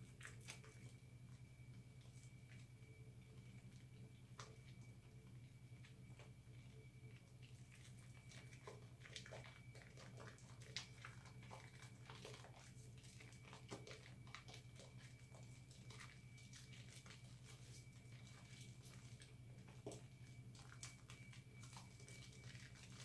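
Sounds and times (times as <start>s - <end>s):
hands kneading soap lather: 0.0s - 23.0s
steady low hum: 0.0s - 23.0s.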